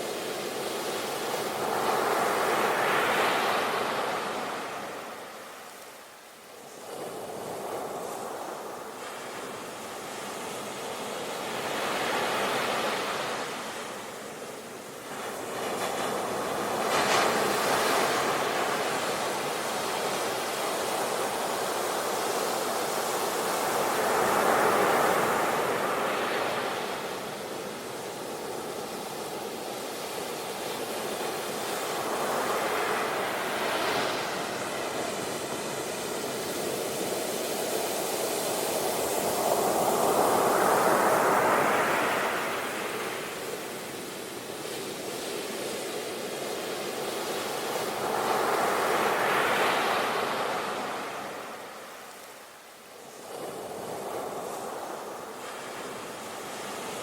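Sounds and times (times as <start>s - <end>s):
sea waves breaking on shore: 6.7s - 57.0s.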